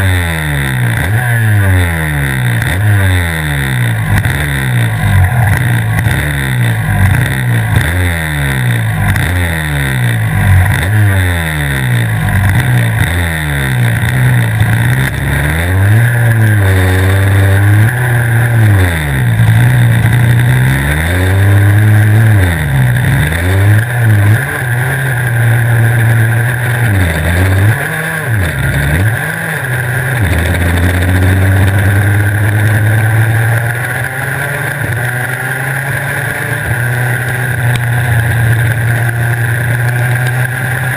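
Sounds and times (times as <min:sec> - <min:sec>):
two-stroke kart engine revving: 0:00.0 - 0:40.9.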